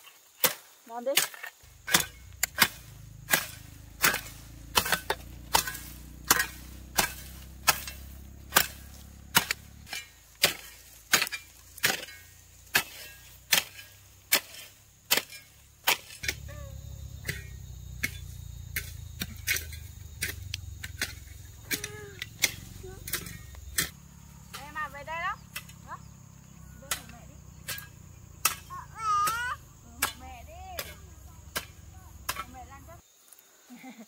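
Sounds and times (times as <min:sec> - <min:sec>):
hoe chopping into soil: 0:00.4 - 0:16.6, 0:17.2 - 0:24.8, 0:26.8 - 0:32.6.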